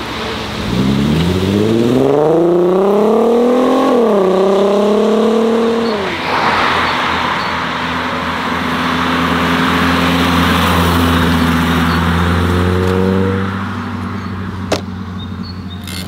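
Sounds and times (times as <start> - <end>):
car engine and exhaust under load: 0.0 - 16.0.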